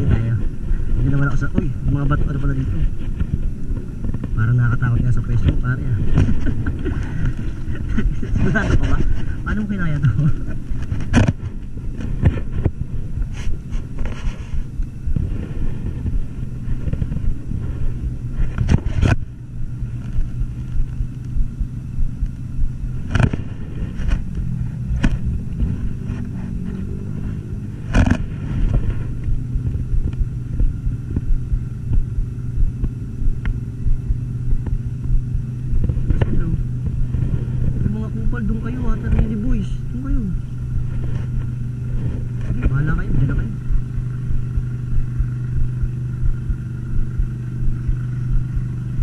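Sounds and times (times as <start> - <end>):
engine humming low: 0.0 - 49.0.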